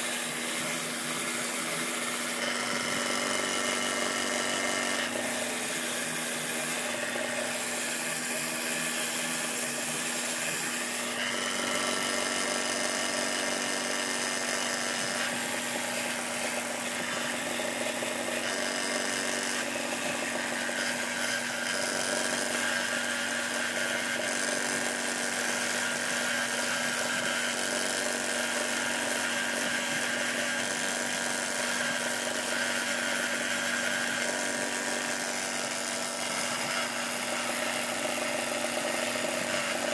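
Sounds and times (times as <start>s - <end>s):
belt sander grinding: 0.0s - 39.9s.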